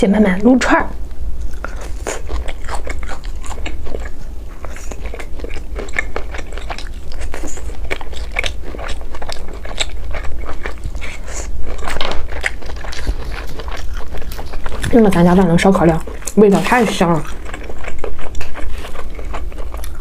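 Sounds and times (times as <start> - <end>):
steady low hum: 0.0 - 20.0
chewing and biting meat: 1.4 - 20.0.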